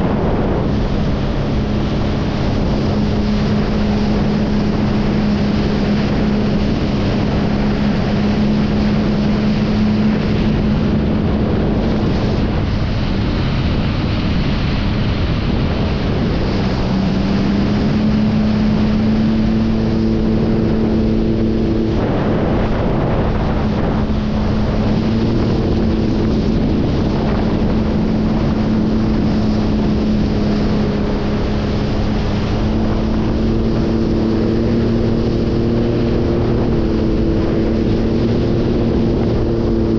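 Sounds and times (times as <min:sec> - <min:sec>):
water and wind rushing: 0:00.0 - 0:39.9
watercraft engine humming: 0:00.0 - 0:39.9.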